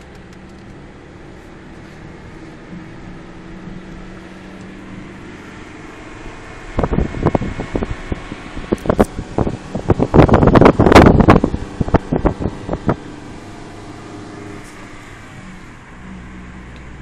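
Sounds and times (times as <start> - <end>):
car interior drone: 0.0 - 17.0.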